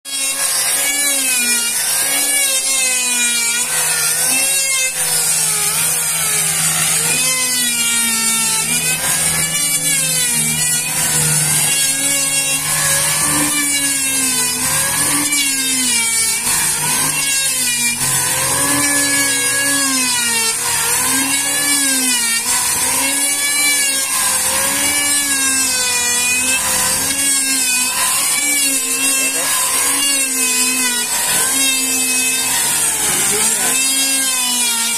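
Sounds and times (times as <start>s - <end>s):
electric planer shaving wood: 0.0s - 34.9s.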